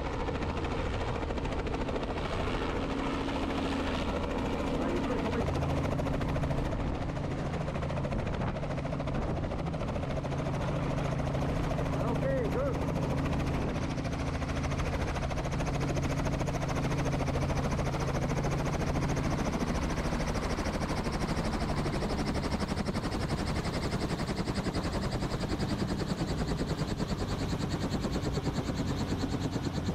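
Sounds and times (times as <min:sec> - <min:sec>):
helicopter engine drone: 0:00.0 - 0:29.9.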